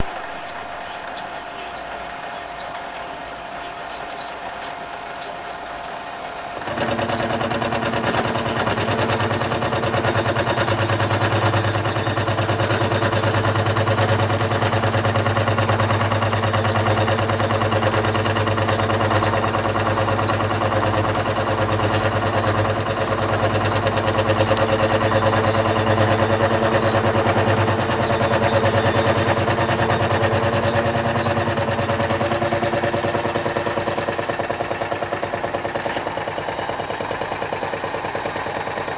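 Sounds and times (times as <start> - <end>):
milling machine humming: 0.0 - 38.9.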